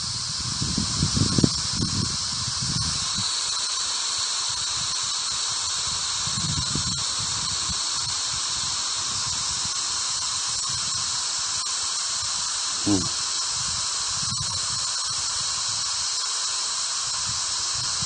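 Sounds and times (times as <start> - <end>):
white noise static hiss: 0.0 - 18.0.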